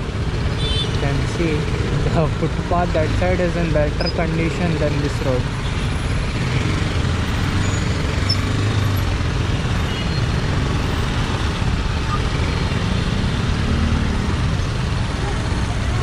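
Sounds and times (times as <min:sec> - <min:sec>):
slow road traffic: 0:00.0 - 0:16.0.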